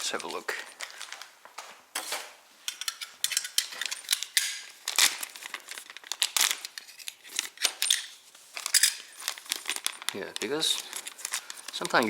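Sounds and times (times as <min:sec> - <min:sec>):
plastic packaging crinkling: 0:00.0 - 0:02.4, 0:03.4 - 0:12.0.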